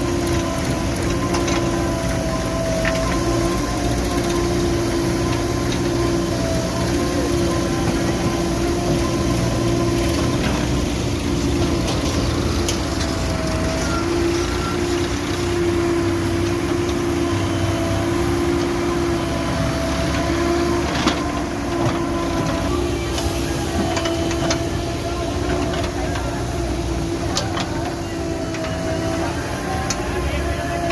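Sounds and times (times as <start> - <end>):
diesel engine whining hum: 0.0 - 30.9.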